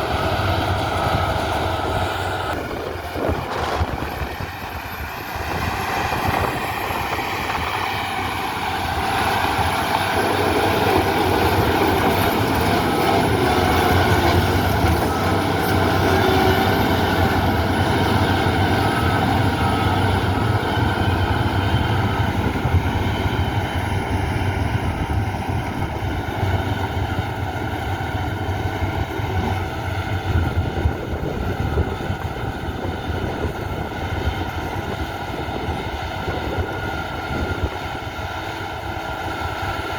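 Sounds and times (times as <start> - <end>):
construction machine diesel engine: 0.0 - 39.9.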